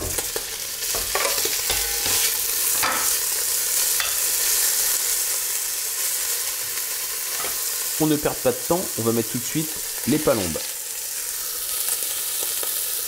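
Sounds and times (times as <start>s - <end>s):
pork sizzling in hot oil: 0.0s - 13.0s.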